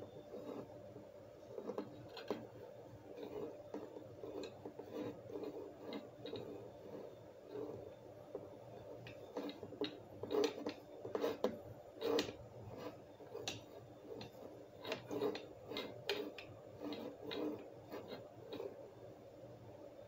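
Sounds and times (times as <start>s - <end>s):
faint steady hum: 0.0s - 20.0s
soft handling clicks and rubbing: 1.5s - 18.9s.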